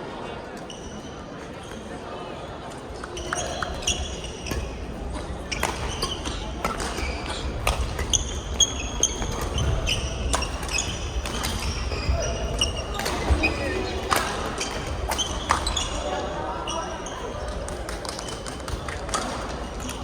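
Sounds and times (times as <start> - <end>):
shoes squeaking on court floor: 0.6 - 2.0, 3.0 - 20.0
rackets hitting shuttlecock: 3.2 - 20.0
players' footfalls: 3.4 - 20.0.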